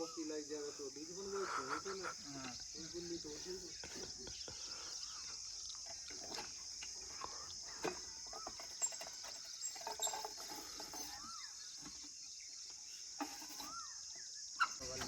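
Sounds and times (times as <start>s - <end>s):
bird calls: 0.0s - 15.0s
insect buzz: 0.0s - 15.0s.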